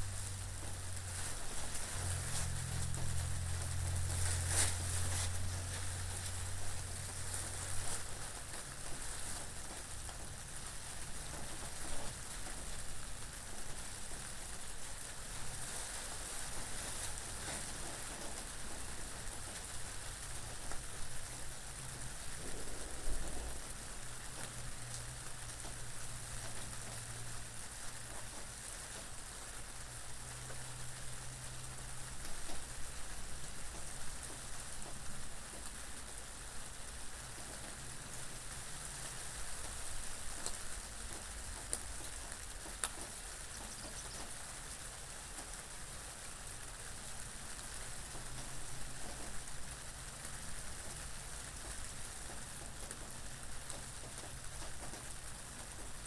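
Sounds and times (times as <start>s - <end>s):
steady rain falling: 0.0s - 56.0s
wind: 0.0s - 56.0s.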